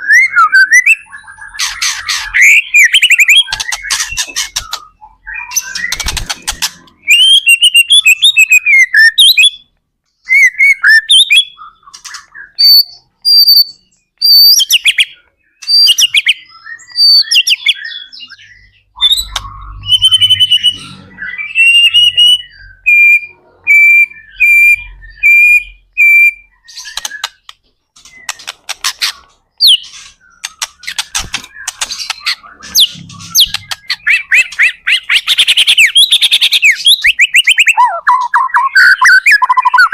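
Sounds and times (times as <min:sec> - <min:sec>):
bird whistled song: 0:00.0 - 0:28.6, 0:29.6 - 0:39.9.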